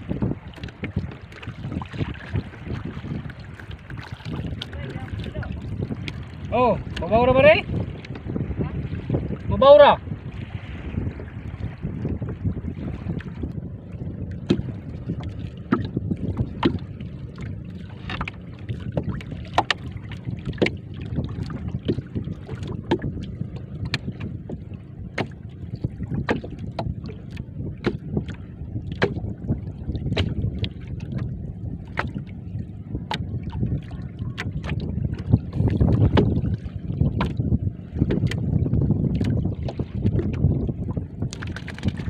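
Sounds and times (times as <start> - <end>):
low rumble of wind and water: 0.0 - 42.0
waves slapping against hull: 0.0 - 42.0.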